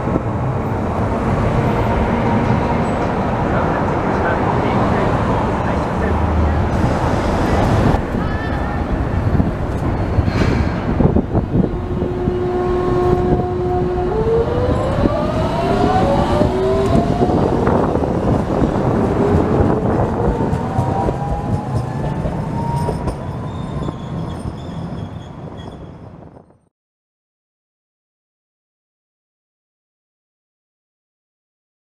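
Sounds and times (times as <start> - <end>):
wheels rumbling on rail: 0.0 - 26.7
tram motor whine: 0.1 - 26.5.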